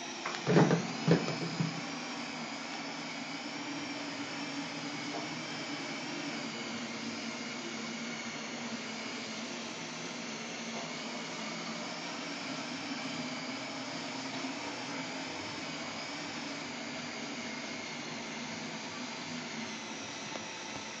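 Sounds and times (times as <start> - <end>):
window cleaning robot motor whine: 0.0 - 21.0.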